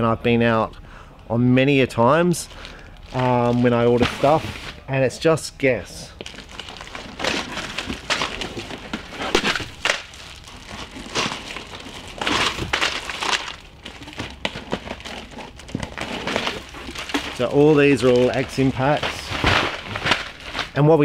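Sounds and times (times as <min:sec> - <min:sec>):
plastic wrapping crinkling: 0:02.4 - 0:04.8, 0:06.1 - 0:20.8.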